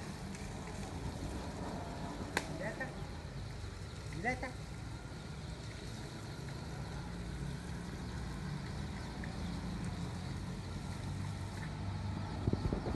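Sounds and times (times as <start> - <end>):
hose water splashing: 0.0 - 12.4
low mechanical hum: 0.0 - 12.9.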